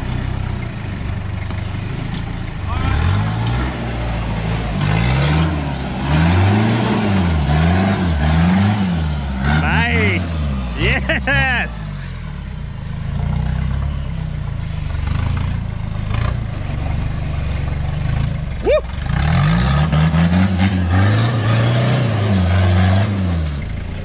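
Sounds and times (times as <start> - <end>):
truck engine revving: 1.6 - 12.2, 12.9 - 24.0.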